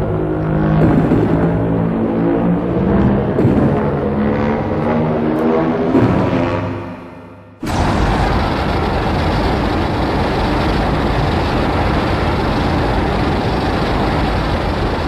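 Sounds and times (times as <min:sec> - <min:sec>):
loud steady rumbling: 0:00.0 - 0:15.0.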